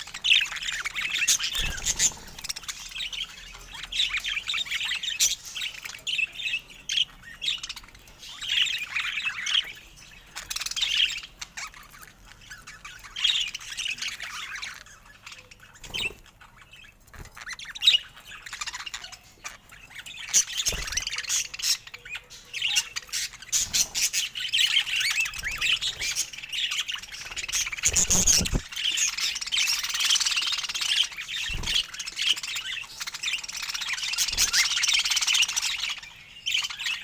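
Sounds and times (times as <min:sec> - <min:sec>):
budgerigars chattering and warbling: 0:00.0 - 0:37.0.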